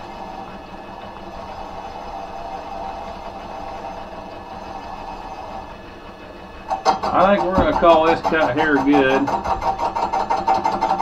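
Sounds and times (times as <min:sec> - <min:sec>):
lathe motor humming: 0:00.0 - 0:11.0.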